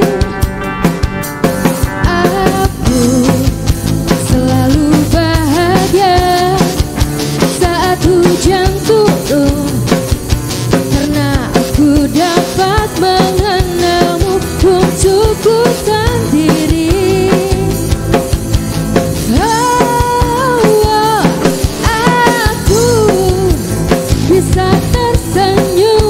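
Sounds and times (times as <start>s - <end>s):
woman singing: 0.0s - 0.5s, 2.0s - 10.1s, 10.7s - 18.0s, 19.2s - 26.0s
acoustic guitar: 0.0s - 26.0s
drum kit: 0.0s - 26.0s
electric guitars: 0.0s - 26.0s.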